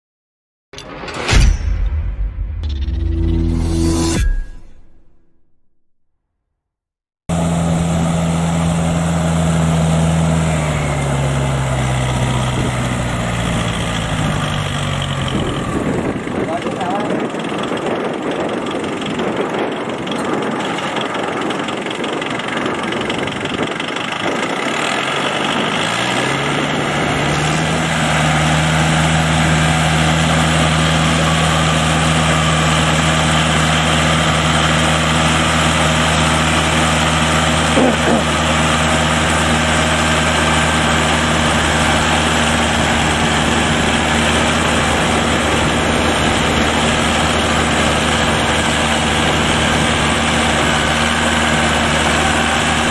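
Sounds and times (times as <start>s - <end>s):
tractor engine revving: 7.3s - 52.9s.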